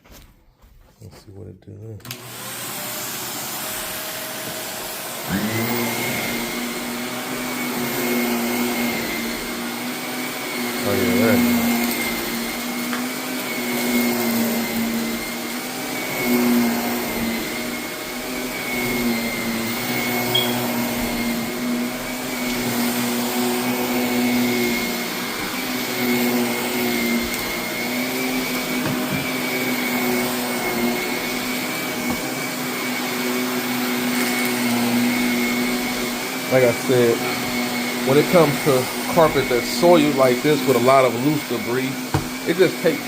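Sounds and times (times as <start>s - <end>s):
vacuum cleaner running: 2.0s - 43.0s.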